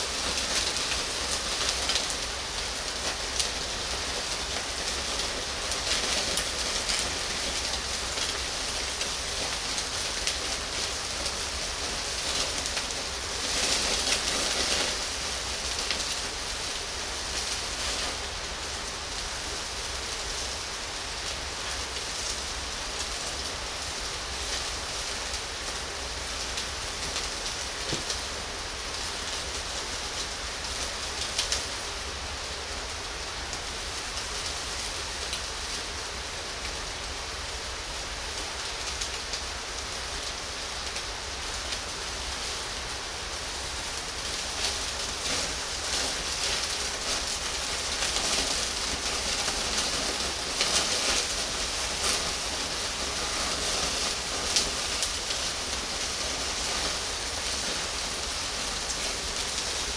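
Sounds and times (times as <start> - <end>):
meat sizzling on a grill: 0.0 - 59.9.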